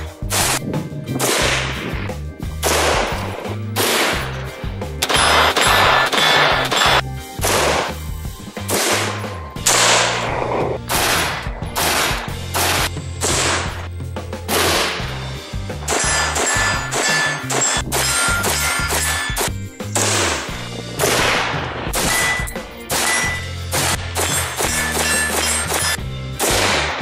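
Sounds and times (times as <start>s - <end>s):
background music with bass line: 0.0s - 27.0s
rifle shots: 0.3s - 4.4s, 5.0s - 8.0s, 8.6s - 13.9s, 14.5s - 15.2s, 15.8s - 27.0s.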